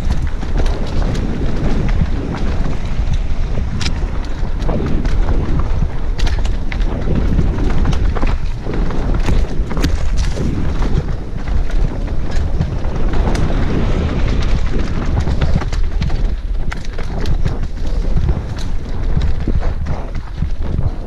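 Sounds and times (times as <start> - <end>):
bike clicks and rattles: 0.0 - 21.0
tyres rumbling on dirt: 0.0 - 21.0
wind buffeting microphone: 0.0 - 21.0.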